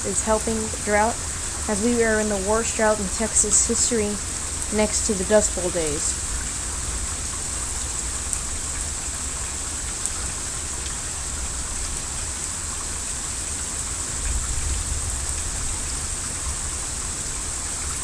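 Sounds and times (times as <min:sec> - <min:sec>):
heavy rain on hard surfaces: 0:00.0 - 0:18.0.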